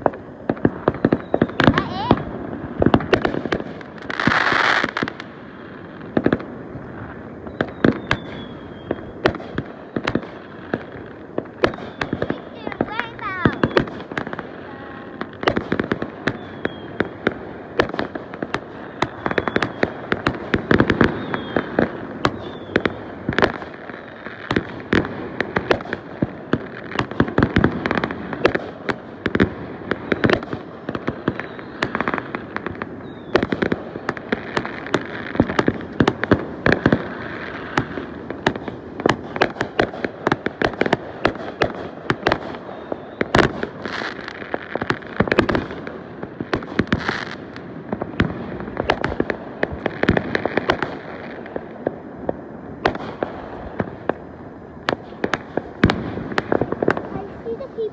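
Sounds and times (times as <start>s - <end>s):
fireworks bangs and crackling: 0.0s - 57.9s.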